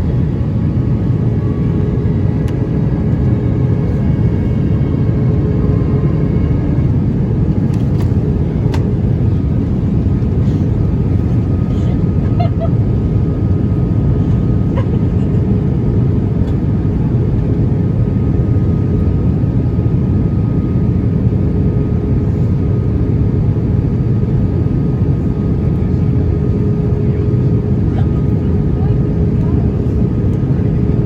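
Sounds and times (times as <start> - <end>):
airliner cabin noise: 0.0 - 31.0.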